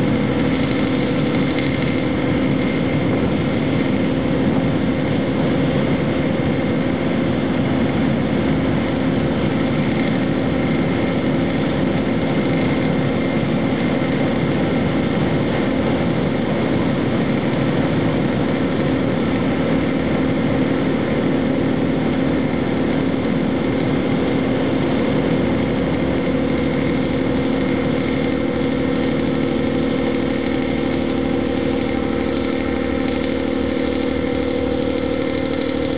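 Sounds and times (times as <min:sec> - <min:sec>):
engine drone: 0:00.0 - 0:35.9.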